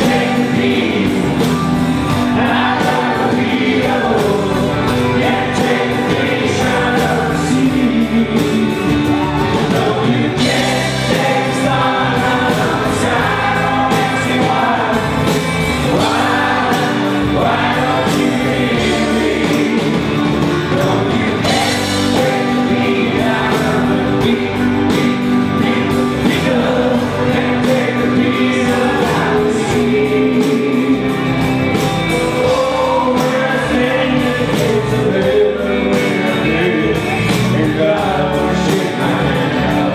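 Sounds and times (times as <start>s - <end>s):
man singing into a microphone: 0.0s - 1.4s, 2.2s - 31.3s, 32.2s - 39.9s
drums: 0.0s - 39.9s
electric bass guitar: 0.0s - 39.9s.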